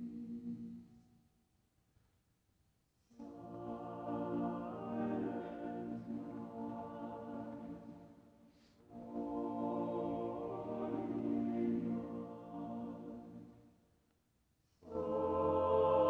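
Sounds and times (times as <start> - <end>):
choir singing sustained chords: 0.0 - 1.1, 3.1 - 13.8, 14.8 - 16.0.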